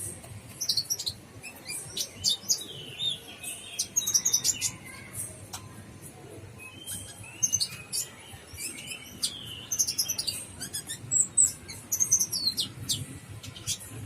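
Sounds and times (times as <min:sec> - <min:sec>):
bird chirps and trills: 0:00.0 - 0:05.8, 0:06.6 - 0:14.0.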